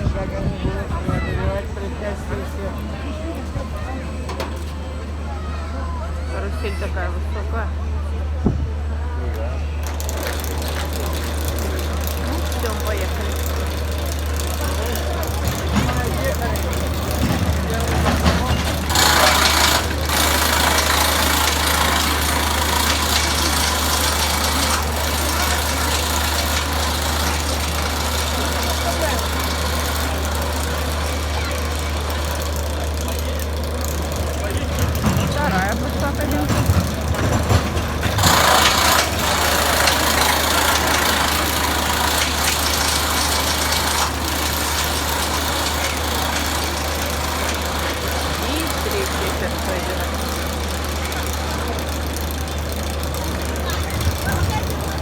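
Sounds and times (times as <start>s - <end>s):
ride machinery humming: 0.0s - 55.0s.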